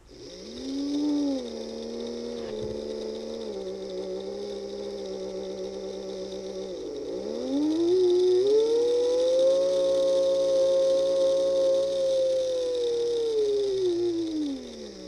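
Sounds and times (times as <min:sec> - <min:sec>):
model train motor whine: 0:00.0 - 0:15.0.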